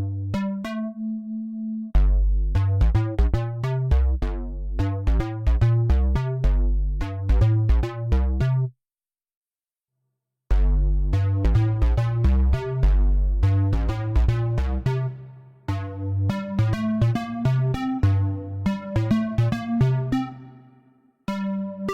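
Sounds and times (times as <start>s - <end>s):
synth bass sequence: 0.0s - 8.7s, 10.5s - 21.9s.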